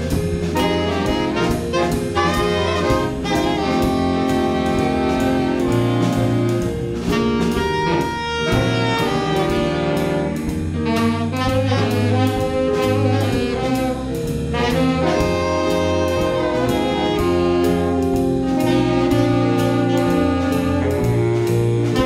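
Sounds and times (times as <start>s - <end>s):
drum kit beat: 0.0s - 22.0s
electric bass: 0.0s - 22.0s
saxophones playing jazz: 0.0s - 22.0s.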